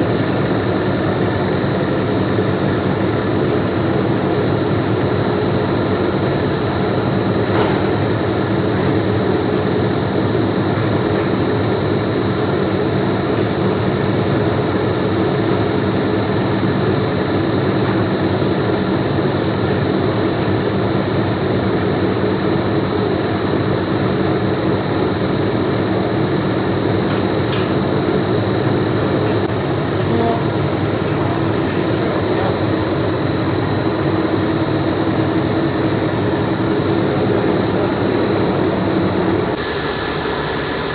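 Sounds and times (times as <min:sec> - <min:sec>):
factory machinery drone: 0:00.0 - 0:40.9
high-pitched machine whine: 0:00.0 - 0:40.9.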